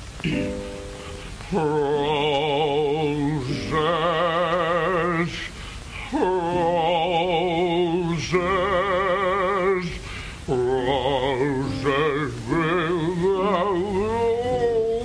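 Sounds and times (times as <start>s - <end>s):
man singing held notes: 1.4s - 15.0s.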